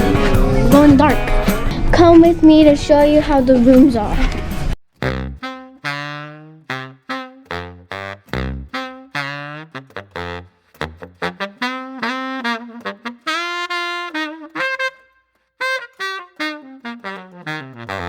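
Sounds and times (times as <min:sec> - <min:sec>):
saxophone melody: 0:00.0 - 0:01.8, 0:05.0 - 0:18.0.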